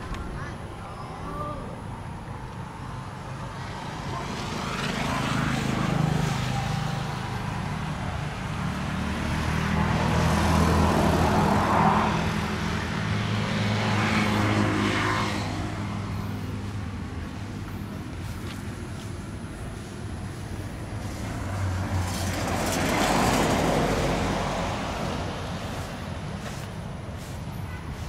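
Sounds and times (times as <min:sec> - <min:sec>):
heavy vehicle engines droning: 0:00.0 - 0:28.0.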